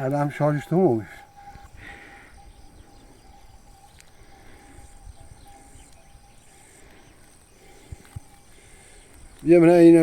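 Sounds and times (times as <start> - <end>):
faint steady hum: 0.0 - 9.6
insects buzzing: 0.0 - 10.0.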